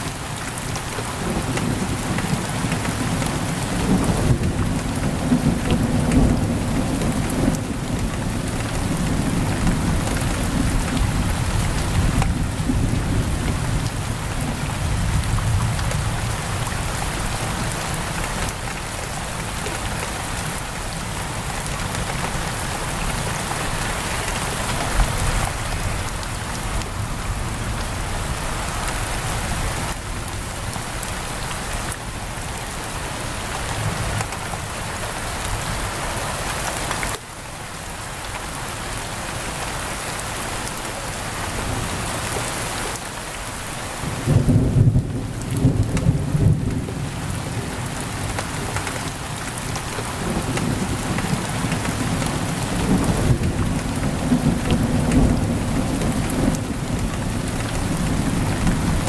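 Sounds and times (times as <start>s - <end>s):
heavy rain on a window: 0.0s - 59.0s.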